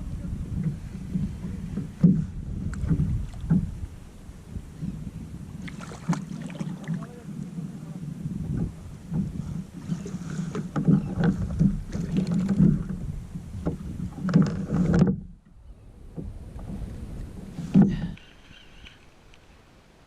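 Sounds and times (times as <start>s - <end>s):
water noise: 0.0s - 20.0s.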